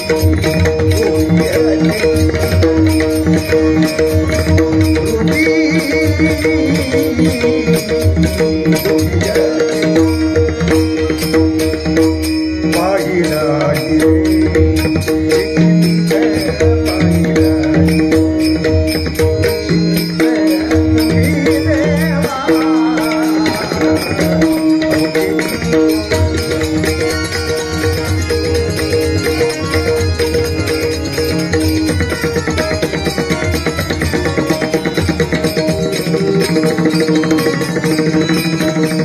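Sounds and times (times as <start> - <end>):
harmonium chords: 0.0 - 39.0.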